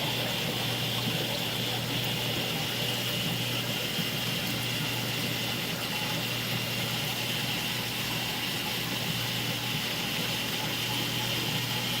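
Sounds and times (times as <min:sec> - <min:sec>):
aquarium pumps humming: 0:00.0 - 0:12.0
water running: 0:00.0 - 0:12.0.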